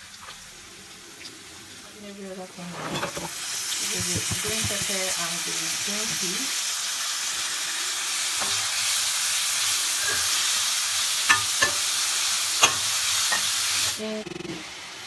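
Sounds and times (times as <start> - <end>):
meat and vegetables sizzling: 0.0 - 15.0.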